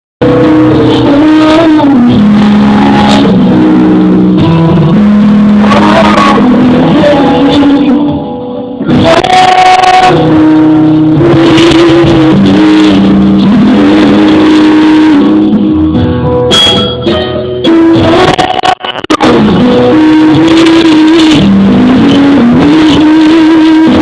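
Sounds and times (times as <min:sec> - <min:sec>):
loud guitar-led music: 0:00.2 - 0:24.0.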